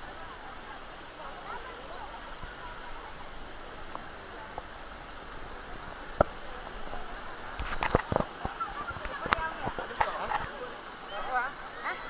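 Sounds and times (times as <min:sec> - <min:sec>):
faint voices: 0:00.0 - 0:12.0
waterfall rushing into pool: 0:00.0 - 0:12.0.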